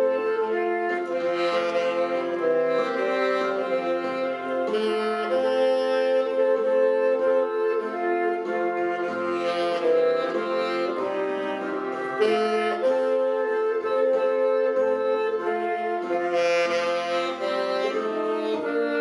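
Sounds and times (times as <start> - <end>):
saxophone ensemble playing hymn: 0.0 - 19.0.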